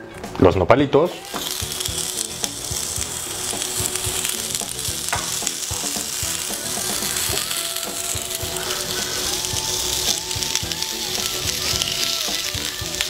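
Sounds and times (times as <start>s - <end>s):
cactus pads sizzling on grill pan: 1.1s - 13.0s.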